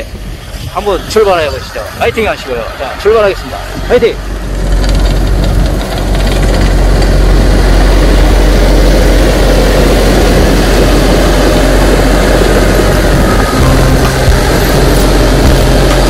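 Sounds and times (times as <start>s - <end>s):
diesel engine roar: 0.0s - 16.0s.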